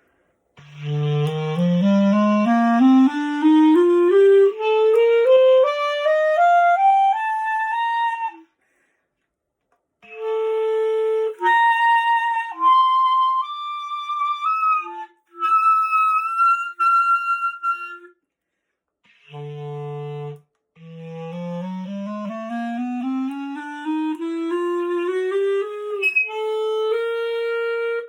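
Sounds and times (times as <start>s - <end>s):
clarinet playing scales: 0.6s - 8.5s, 10.0s - 18.2s, 19.1s - 28.0s.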